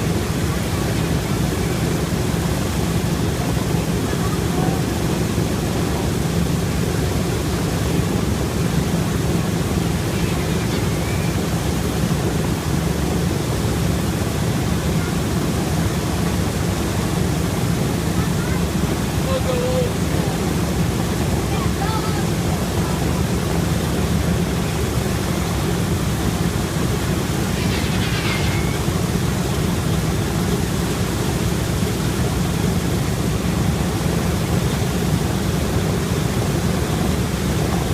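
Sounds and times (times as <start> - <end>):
radial aircraft engines rumbling: 0.0 - 37.9.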